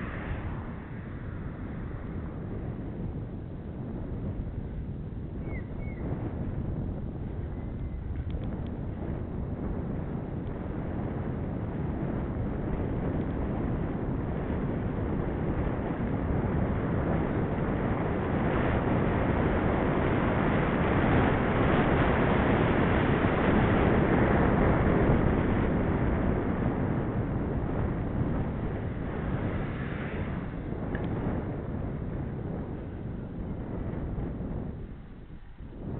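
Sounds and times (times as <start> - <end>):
wind rushing over microphone: 0.0 - 35.9.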